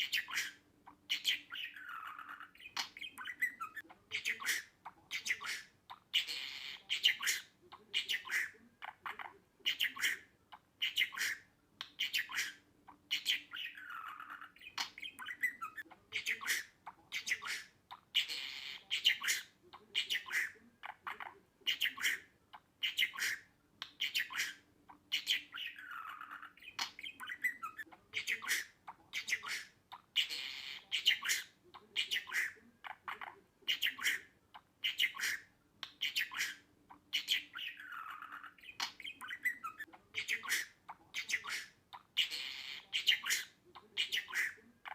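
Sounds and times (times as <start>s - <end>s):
budgerigar chattering and warbling: 0.0s - 44.9s.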